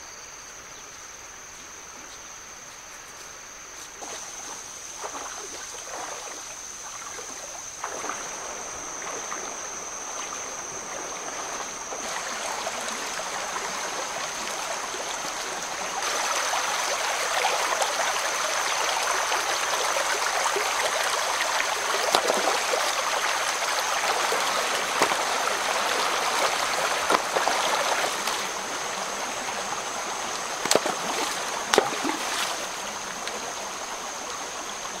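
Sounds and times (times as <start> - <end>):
steady high-pitched whine: 0.0 - 35.0
stream flowing over rocks: 4.0 - 35.0.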